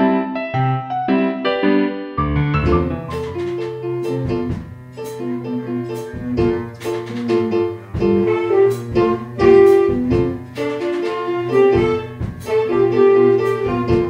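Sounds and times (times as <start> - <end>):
sustained low tones: 2.3 - 14.0.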